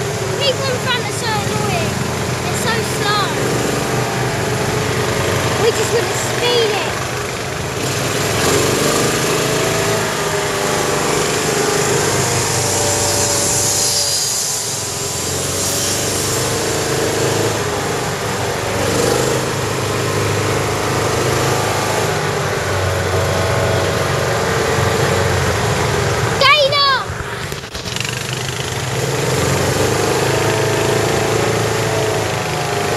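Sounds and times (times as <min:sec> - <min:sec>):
buggy engine running: 0:00.0 - 0:32.9.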